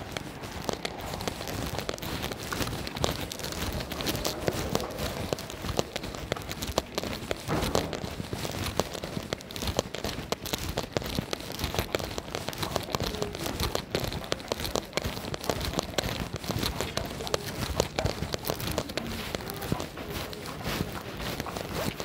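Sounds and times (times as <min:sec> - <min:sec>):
footsteps on slushy pavement: 0:00.0 - 0:22.0
rain pattering: 0:00.0 - 0:22.0.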